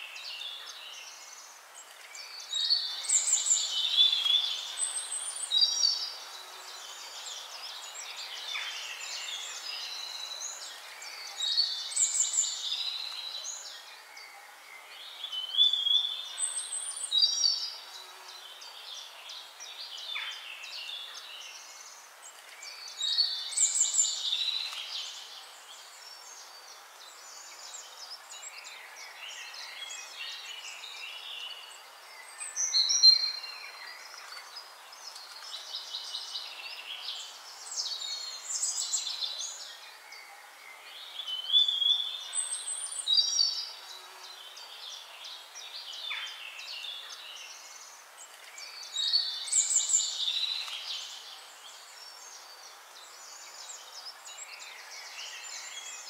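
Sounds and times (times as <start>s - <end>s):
small birds chirping and trilling: 0.0s - 56.0s
steady outdoor hiss: 0.0s - 56.0s.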